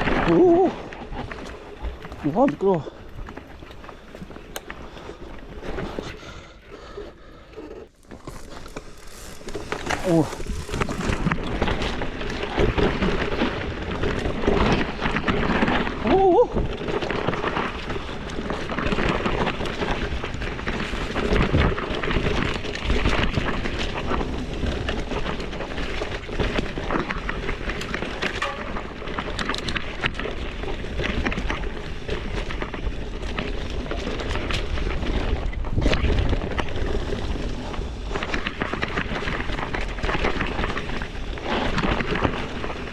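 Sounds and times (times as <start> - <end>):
bike tyres crunching on dirt: 0.0 - 42.9.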